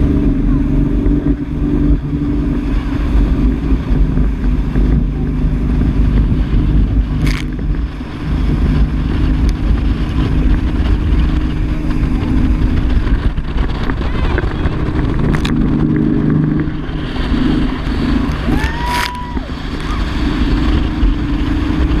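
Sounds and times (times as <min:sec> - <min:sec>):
rushing water: 0:00.0 - 0:22.0
speedboat engine running: 0:00.0 - 0:22.0
wind: 0:00.0 - 0:22.0.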